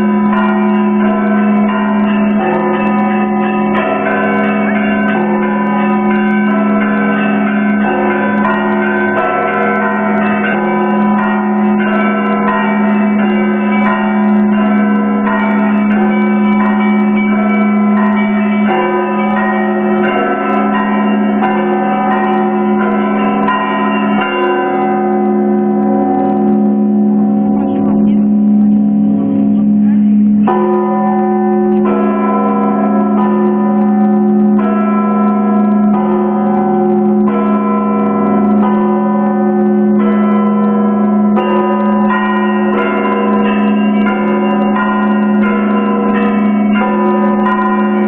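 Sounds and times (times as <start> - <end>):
bells pealing: 0.0 - 48.0
large bell ringing low: 0.0 - 48.0.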